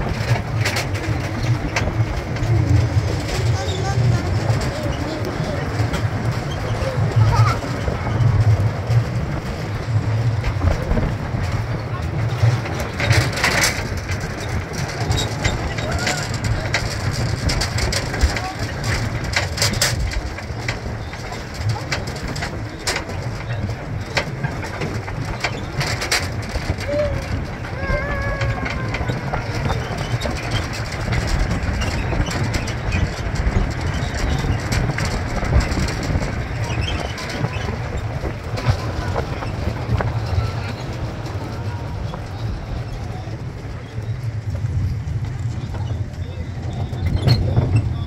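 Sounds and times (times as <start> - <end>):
carriages rattling clicks: 0.0 - 48.0
small ride train rumbling: 0.0 - 48.0.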